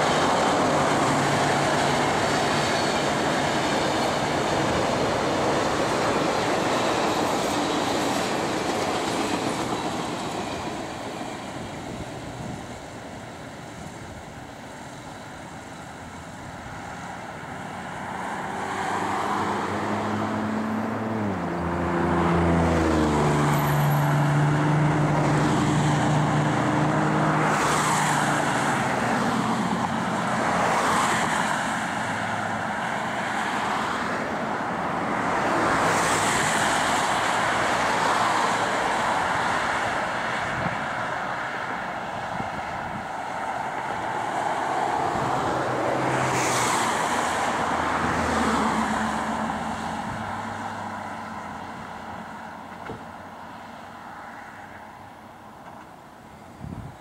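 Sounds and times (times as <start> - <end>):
cars passing: 0.0 - 57.0
hiss of the roadway: 0.0 - 57.0.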